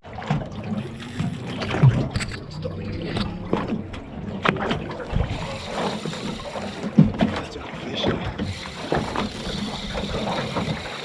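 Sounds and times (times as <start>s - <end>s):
water sloshing against boat hull: 0.0s - 11.0s.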